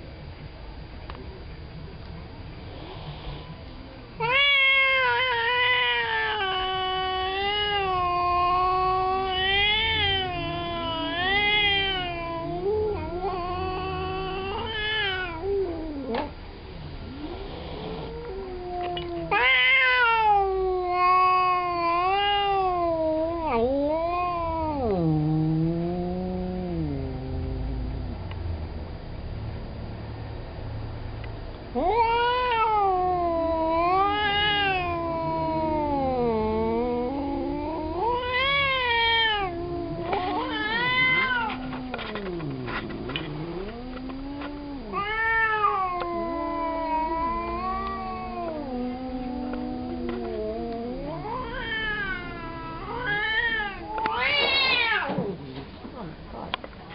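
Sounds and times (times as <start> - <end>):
cat growling: 2.6 - 28.7, 31.7 - 56.9
cat yowling: 4.2 - 16.3, 18.0 - 27.8, 31.8 - 55.4.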